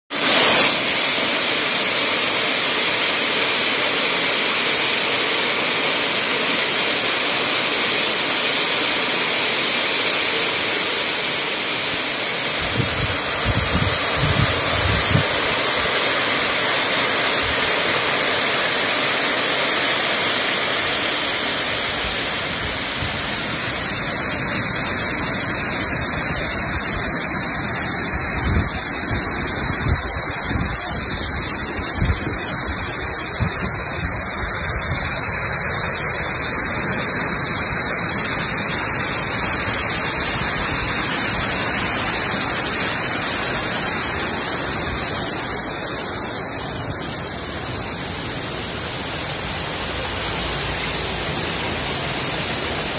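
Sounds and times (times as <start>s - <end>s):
waterfall rushing over rocks: 0.1s - 52.9s.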